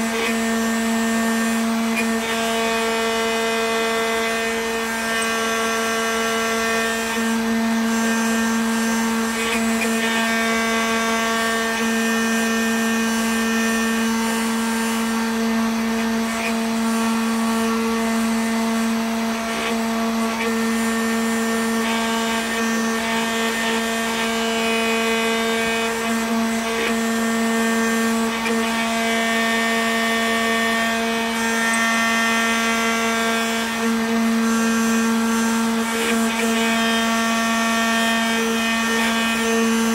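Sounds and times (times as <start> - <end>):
router spindle motor humming: 0.0 - 39.9.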